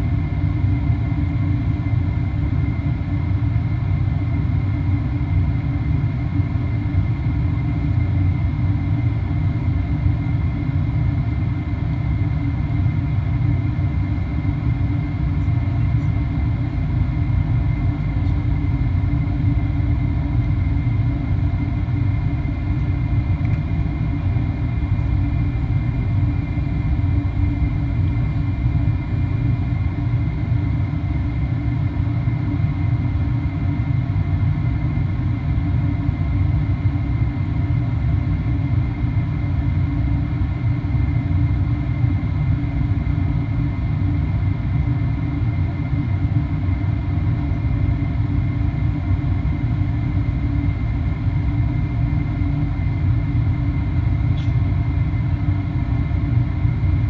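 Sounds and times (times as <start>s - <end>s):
jet cabin engine rumble: 0.0s - 57.0s
faint high whine: 4.0s - 57.0s.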